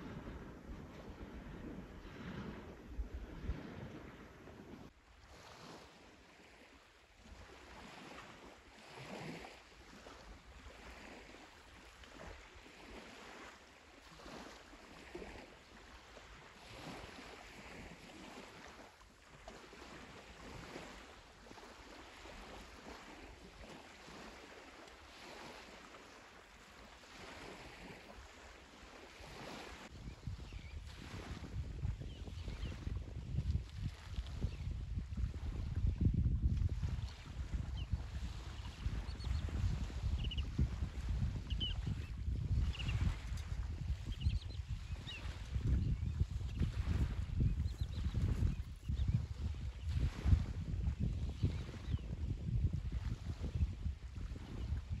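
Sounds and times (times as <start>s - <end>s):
small waves washing on beach: 0.0s - 55.0s.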